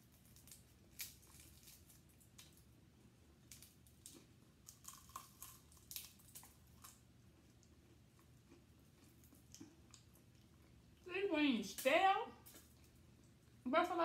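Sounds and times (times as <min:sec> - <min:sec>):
chicken wing eating and chewing: 0:00.0 - 0:11.1, 0:12.4 - 0:13.6.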